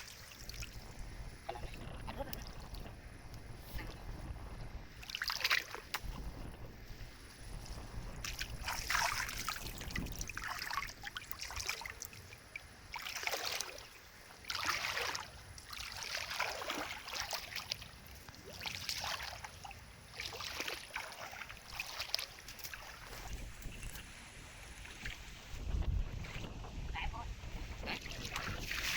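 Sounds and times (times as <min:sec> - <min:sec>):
wind rumble on microphone: 0:00.0 - 0:11.9, 0:15.0 - 0:28.9
water swishing and splashing: 0:00.0 - 0:28.9.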